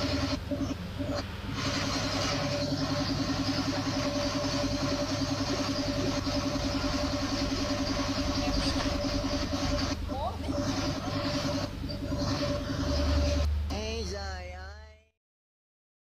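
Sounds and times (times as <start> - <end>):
pulsing machine hum: 0.0 - 14.1.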